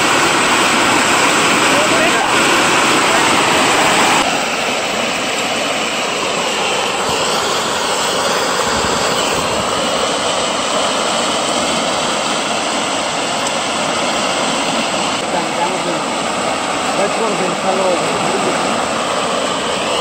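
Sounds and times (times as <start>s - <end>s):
water rushing through rapids: 0.0s - 20.0s.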